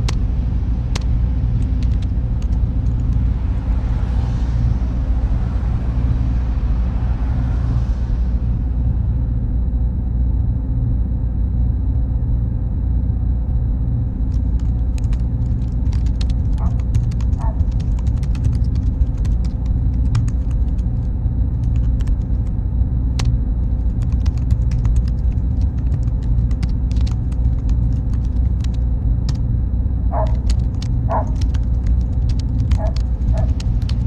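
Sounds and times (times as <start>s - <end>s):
faint steady whine: 0.0s - 34.0s
low machine rumble: 0.0s - 34.0s.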